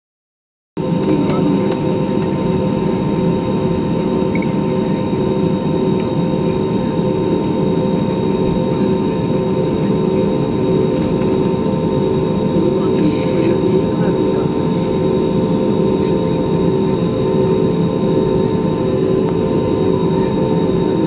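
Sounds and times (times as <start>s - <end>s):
jet engines idling in cabin: 0.8s - 21.0s.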